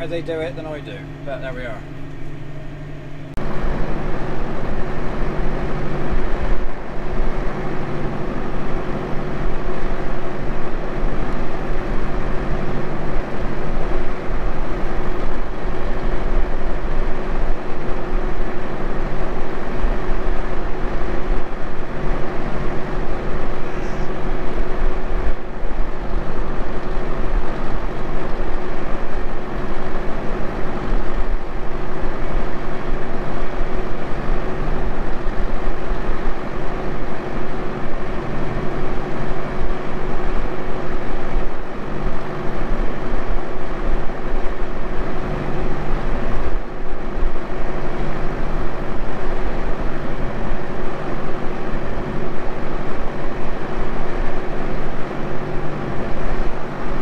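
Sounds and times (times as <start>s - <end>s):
tractor engine droning under load: 0.0s - 57.0s.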